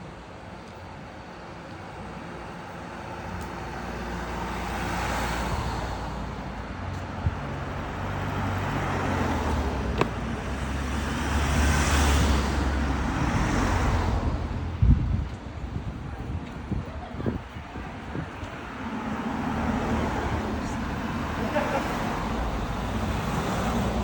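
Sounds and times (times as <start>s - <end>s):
vehicles driving past: 0.2s - 24.0s.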